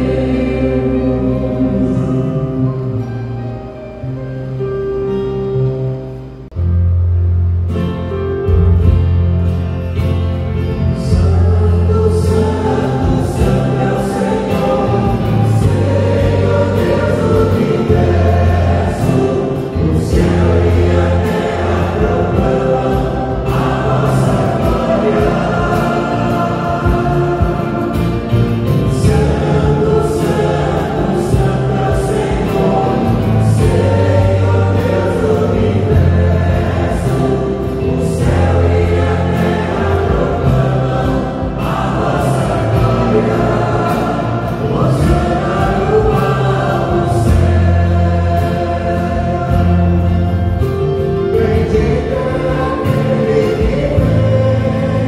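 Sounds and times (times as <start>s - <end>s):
group singing a hymn: 0.0s - 3.9s, 8.5s - 55.0s
acoustic guitar: 0.0s - 55.0s
stage keyboard: 0.0s - 55.0s.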